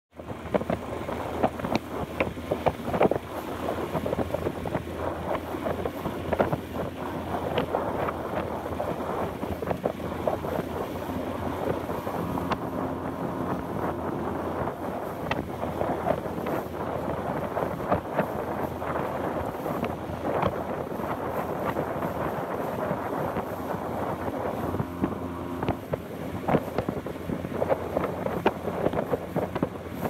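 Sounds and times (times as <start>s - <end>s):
wind buffeting microphone: 0.1s - 30.0s.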